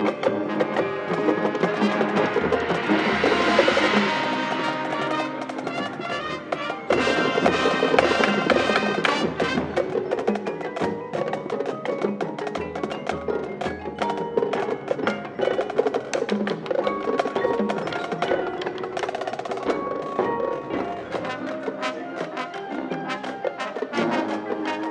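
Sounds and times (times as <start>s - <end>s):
mallet instruments: 0.0s - 24.9s
marching band drums: 0.0s - 24.9s.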